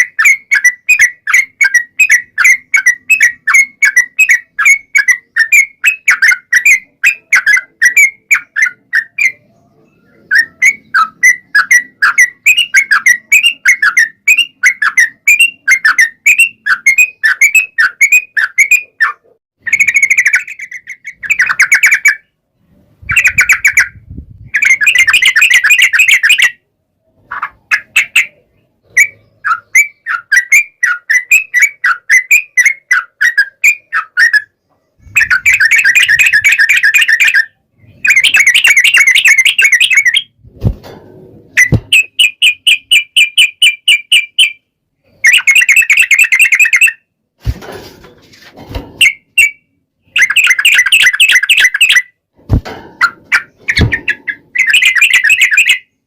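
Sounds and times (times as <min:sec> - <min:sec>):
bird chattering song: 0:00.0 - 0:40.4, 0:41.5 - 0:47.1, 0:49.0 - 0:52.2, 0:53.0 - 0:56.0.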